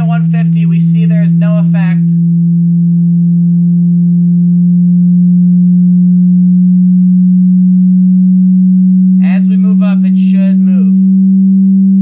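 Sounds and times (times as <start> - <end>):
sine test tone sweeping upward: 0.0 - 12.0.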